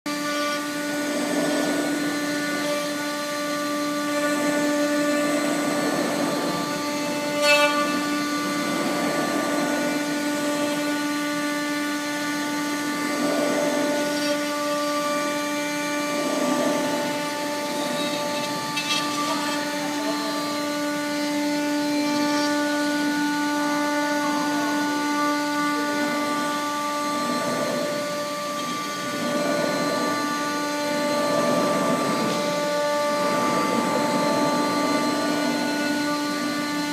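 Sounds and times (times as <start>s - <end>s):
machine spindle tone: 0.1s - 36.9s
metal cutting noise: 0.1s - 36.9s.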